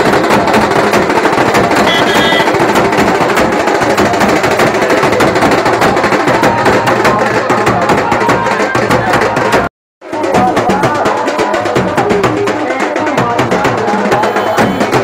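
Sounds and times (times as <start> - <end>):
crowd din: 0.0 - 15.0
loud fast drumming: 0.0 - 15.0.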